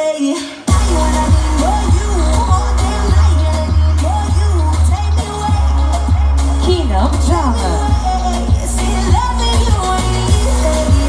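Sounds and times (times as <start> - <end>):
loud pop music: 0.0 - 11.0.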